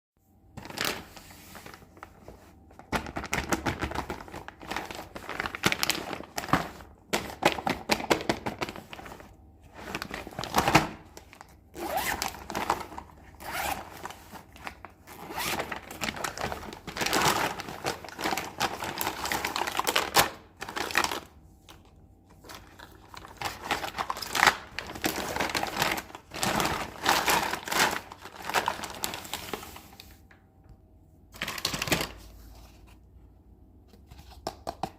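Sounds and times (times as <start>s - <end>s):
packaging crinkling and tearing: 0.6s - 30.2s, 31.4s - 32.5s.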